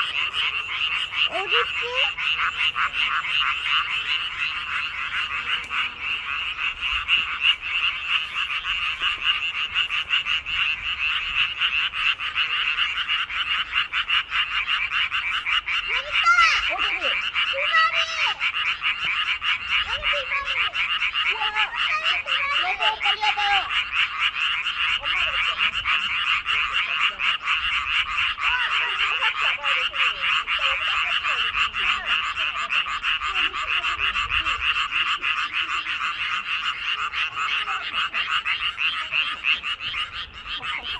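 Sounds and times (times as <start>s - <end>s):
chorus of frogs calling: 0.0s - 40.9s
low short frog calls: 0.0s - 40.9s.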